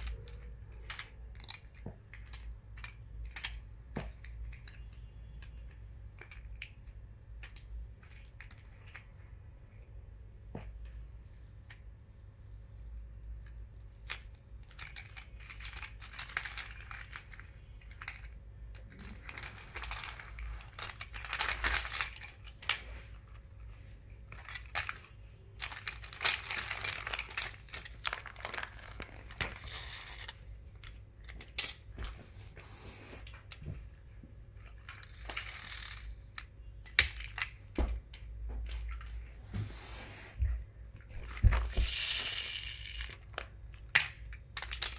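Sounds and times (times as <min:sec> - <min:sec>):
toy cars clicking and clattering: 0:00.0 - 0:09.1, 0:10.8 - 0:11.8, 0:12.8 - 0:23.4, 0:24.3 - 0:31.9, 0:34.6 - 0:39.2, 0:41.4 - 0:44.9.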